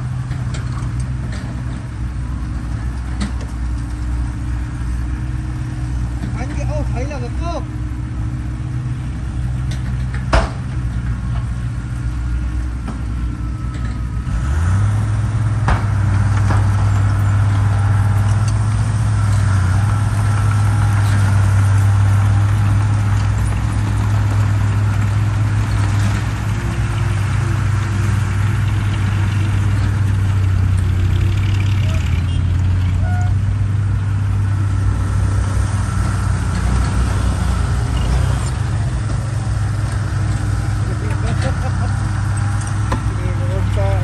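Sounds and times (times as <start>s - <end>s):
diesel engines running: 0.0s - 44.0s
dump truck driving up: 0.0s - 44.0s.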